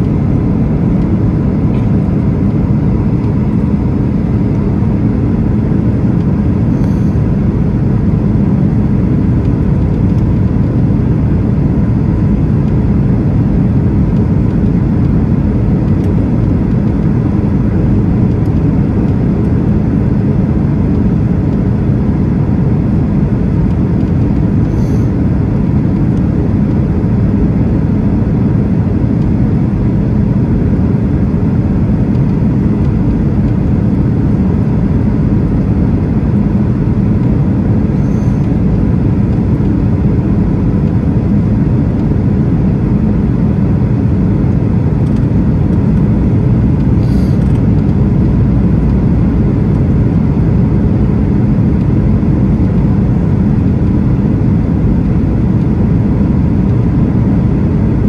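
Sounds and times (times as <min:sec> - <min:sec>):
aircraft engines roaring: 0:00.0 - 0:58.0.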